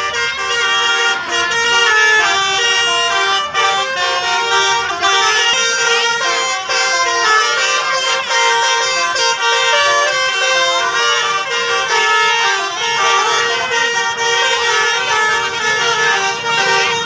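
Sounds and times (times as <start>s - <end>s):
multi-tone musical bus horns: 0.0s - 17.0s.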